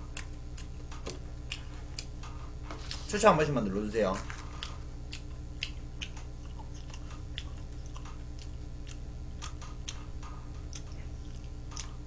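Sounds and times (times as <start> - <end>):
person chewing: 0.0 - 3.1, 4.2 - 12.0
steady low hum: 0.0 - 12.0.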